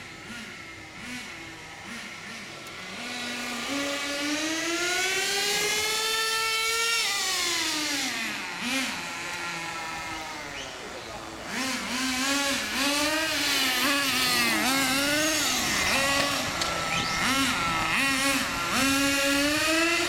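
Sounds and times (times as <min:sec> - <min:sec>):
rc car engine revving: 0:00.0 - 0:20.0.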